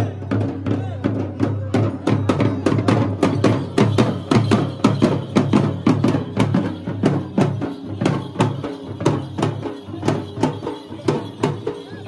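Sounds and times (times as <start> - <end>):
barrel drums beaten with sticks: 0.0 - 12.0.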